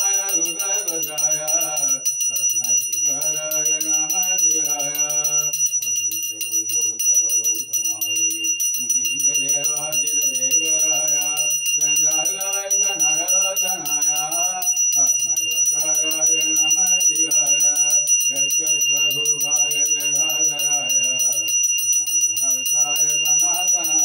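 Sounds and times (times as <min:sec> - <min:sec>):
hand bell ringing rapidly: 0:00.0 - 0:24.0
man chanting: 0:00.0 - 0:24.0.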